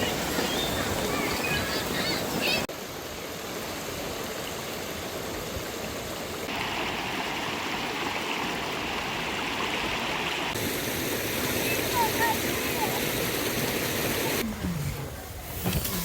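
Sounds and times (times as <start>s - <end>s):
stream flowing over rocks: 0.0s - 14.5s.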